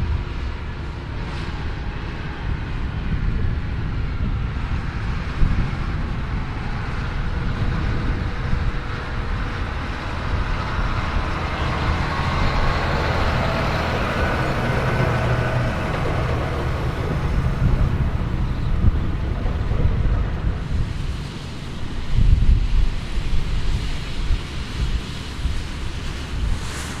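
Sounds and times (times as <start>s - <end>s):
diesel machinery rumbling: 0.0s - 27.0s.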